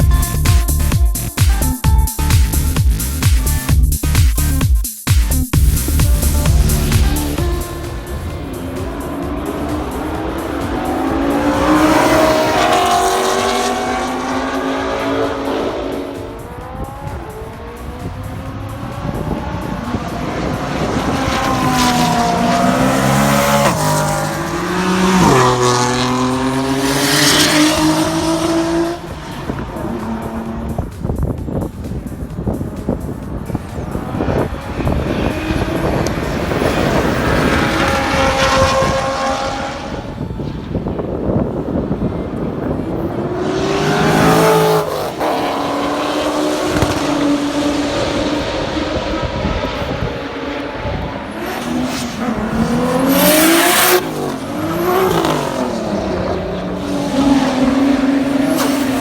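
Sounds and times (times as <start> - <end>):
car engine accelerating hard: 5.5 - 59.0.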